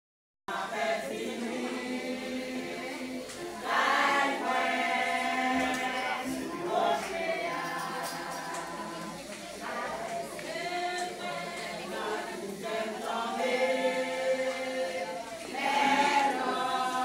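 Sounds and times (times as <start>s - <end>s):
church choir singing: 0.5s - 17.0s.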